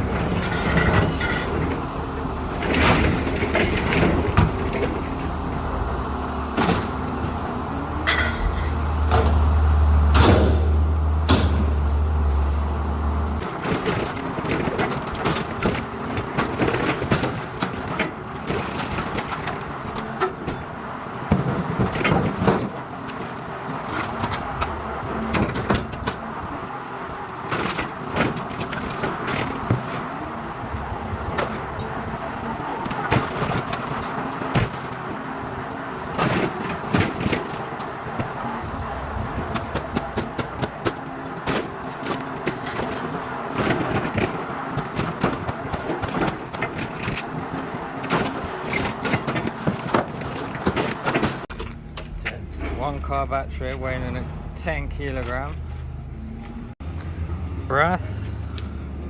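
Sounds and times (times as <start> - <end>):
scrap metal clanking: 0.0 - 56.8
low engine hum: 0.0 - 59.0.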